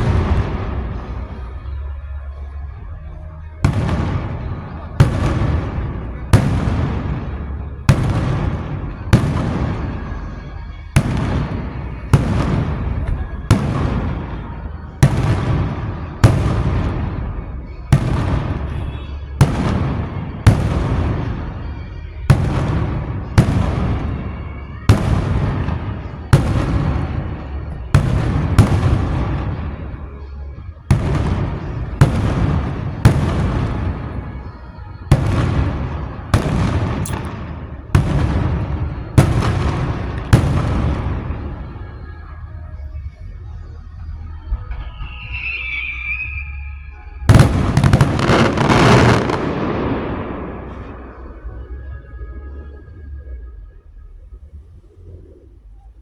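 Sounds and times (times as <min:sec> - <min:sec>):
fireworks banging with echo: 0:00.0 - 0:02.5, 0:03.2 - 0:52.9.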